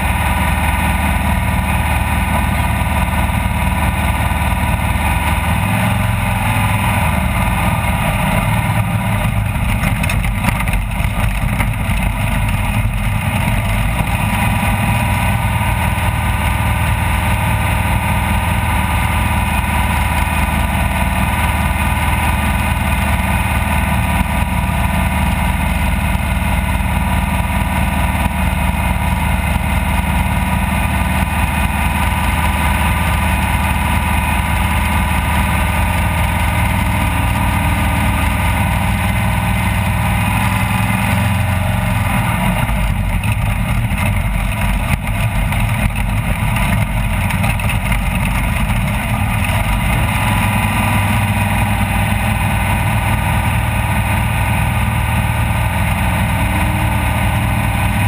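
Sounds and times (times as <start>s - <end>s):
loud engine running: 0.0s - 58.0s.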